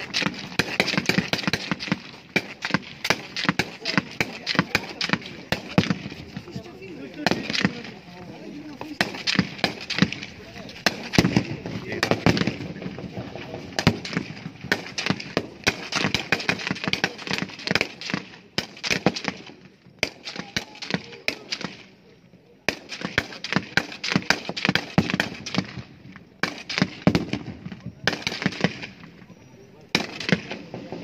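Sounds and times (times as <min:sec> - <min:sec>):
rifles firing: 0:00.0 - 0:21.8, 0:22.7 - 0:25.8, 0:26.4 - 0:29.1, 0:29.9 - 0:31.0.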